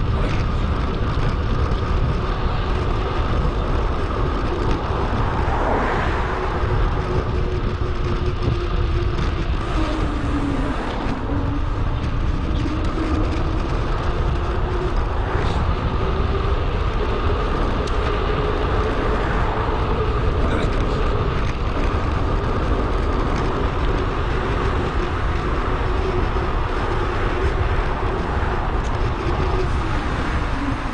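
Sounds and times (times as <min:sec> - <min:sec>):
bicycle tyre noise: 0:00.0 - 0:30.9
rushing air: 0:00.0 - 0:30.9
wind noise on microphone: 0:00.0 - 0:30.9.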